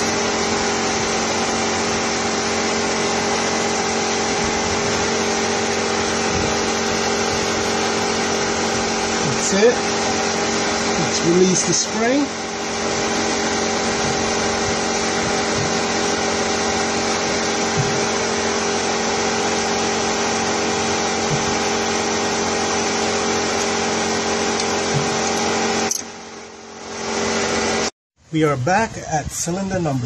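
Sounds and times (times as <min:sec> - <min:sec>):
electric motor whirring: 0:00.0 - 0:26.3.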